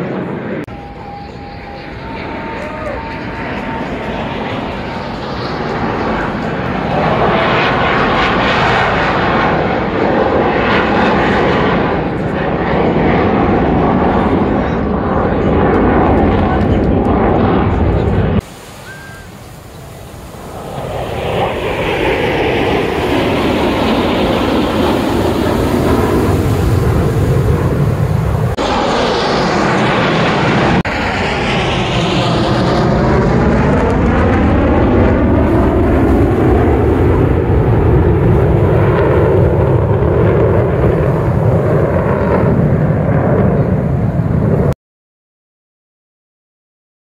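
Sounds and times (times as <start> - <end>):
jet engines flying over: 0.0 - 44.8.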